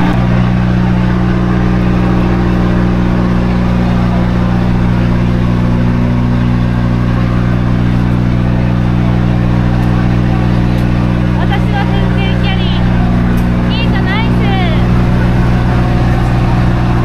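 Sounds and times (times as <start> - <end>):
large engine idling: 0.0 - 17.0.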